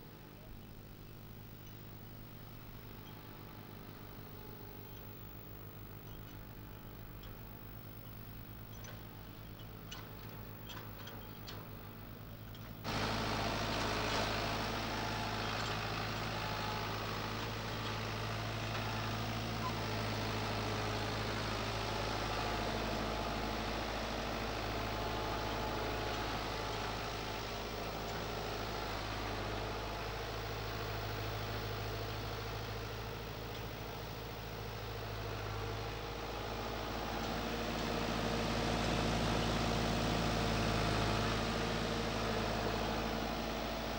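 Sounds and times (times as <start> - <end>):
tractor diesel engine idling: 8.4 - 43.9.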